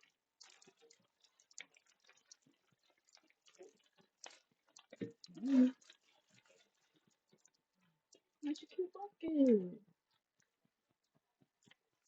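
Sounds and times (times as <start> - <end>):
faint small clicks and crackles: 0.0 - 12.0.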